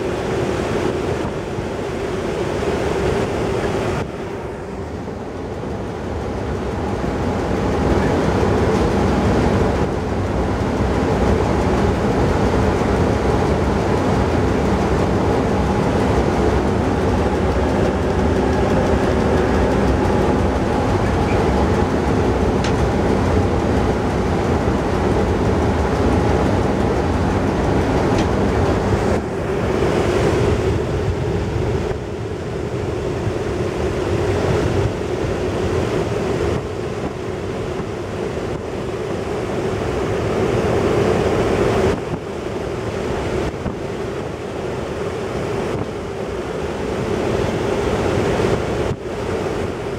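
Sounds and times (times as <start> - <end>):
train running noise: 0.0 - 49.9
wind and snow rushing: 0.0 - 49.9.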